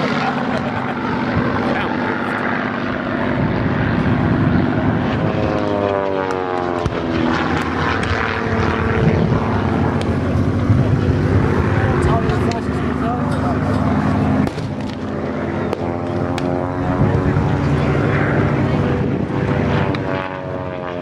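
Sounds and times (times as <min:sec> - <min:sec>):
propeller plane flying past: 0:00.0 - 0:21.0.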